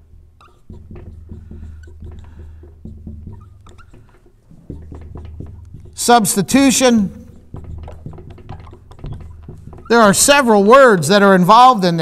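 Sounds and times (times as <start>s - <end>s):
marker squeaking on whiteboard: 0.0s - 11.5s.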